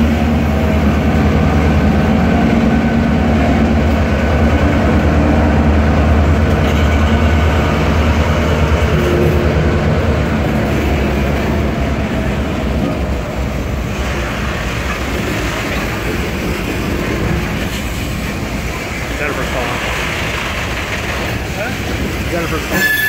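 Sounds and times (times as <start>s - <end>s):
diesel locomotive engine drone: 0.0s - 23.0s
train wheels on rails: 0.0s - 23.0s.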